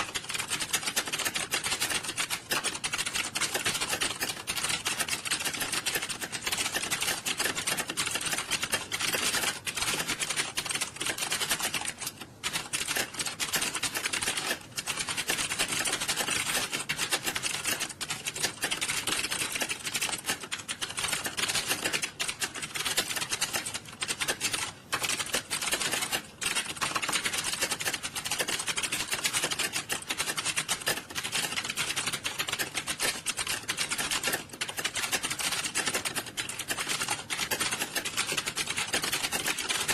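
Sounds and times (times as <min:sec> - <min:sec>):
keyboards typing fast: 0:00.0 - 0:39.9.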